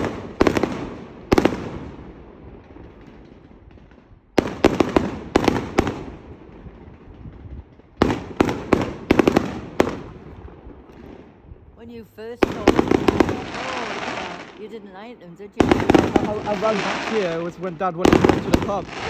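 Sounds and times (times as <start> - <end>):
fireworks bangs with echo: 0.0 - 19.0.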